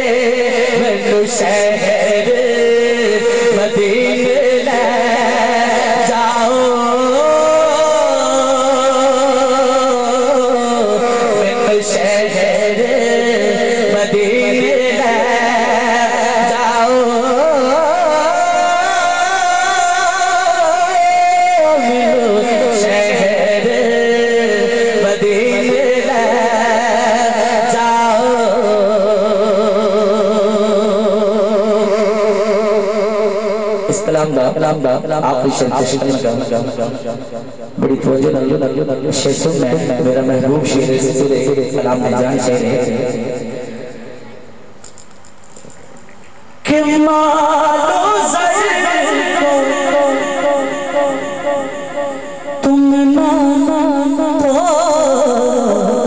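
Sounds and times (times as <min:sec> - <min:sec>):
man singing melismatic notes: 0:00.0 - 0:44.8, 0:46.6 - 0:56.0
steady drone: 0:00.0 - 0:45.0, 0:45.6 - 0:56.0.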